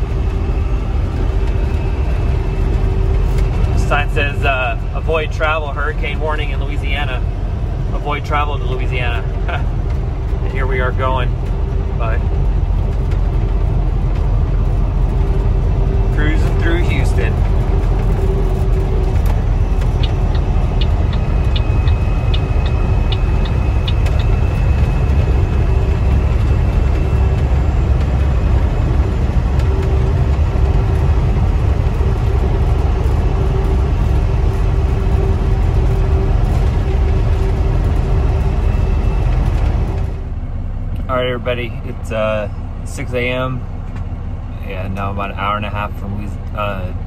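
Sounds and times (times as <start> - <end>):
truck diesel engine rumble: 0.0 - 47.0.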